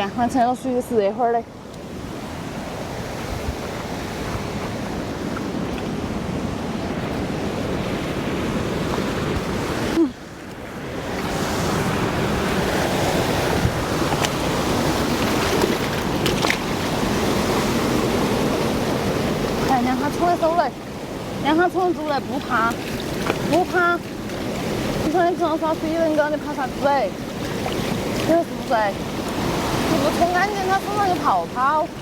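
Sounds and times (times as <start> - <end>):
flowing water rushing: 0.0 - 32.0.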